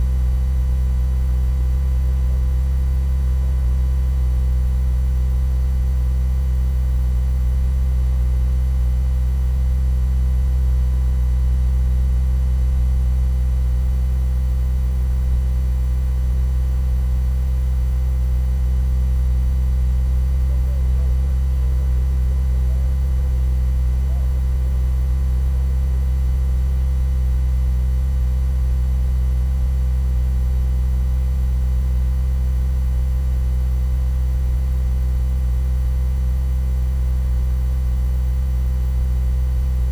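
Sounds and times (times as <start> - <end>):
loud low hum: 0.0 - 39.9.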